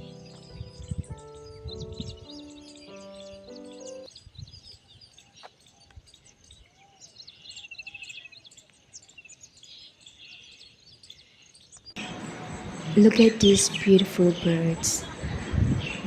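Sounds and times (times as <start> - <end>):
birds singing and chirping: 0.0 - 16.0.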